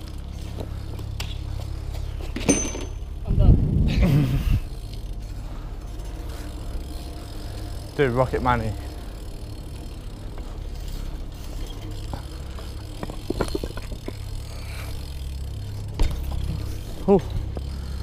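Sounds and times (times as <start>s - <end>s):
bike rattling clicks: 0.0s - 3.3s, 4.6s - 18.0s
bike tyres rumbling on paving: 0.0s - 18.0s.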